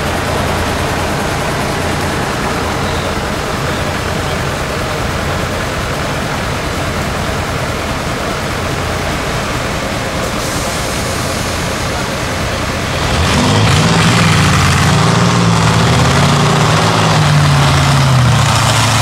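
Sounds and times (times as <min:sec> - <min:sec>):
low hum: 0:00.0 - 0:19.0
off-road truck engines running: 0:00.0 - 0:19.0.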